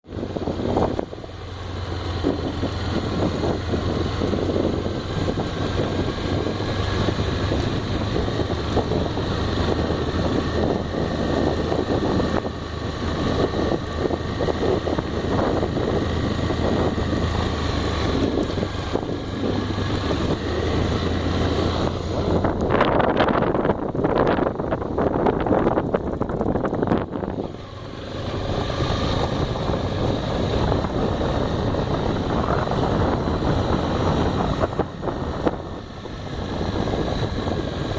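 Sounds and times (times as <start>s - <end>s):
motorcycle engine running: 0.0s - 37.9s
wind on microphone: 2.1s - 37.9s.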